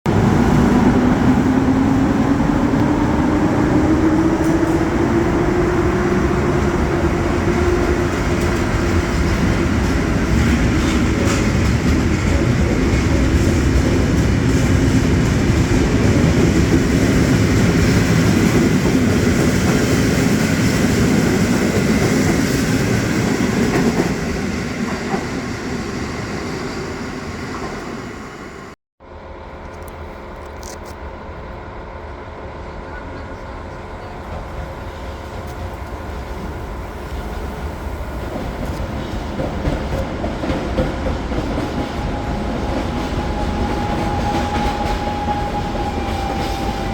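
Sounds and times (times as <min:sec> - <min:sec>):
train wheels rumbling on rail: 0:00.0 - 0:28.8, 0:29.4 - 0:46.9.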